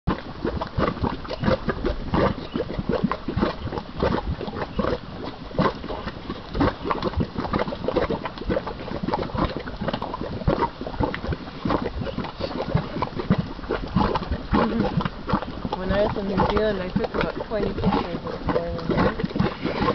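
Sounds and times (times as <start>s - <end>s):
mud pot bubbling and popping: 0.1s - 19.9s.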